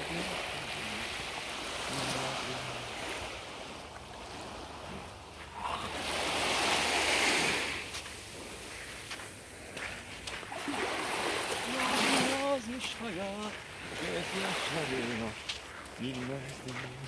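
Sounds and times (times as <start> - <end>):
small waves lapping on sand: 0.0 - 17.0.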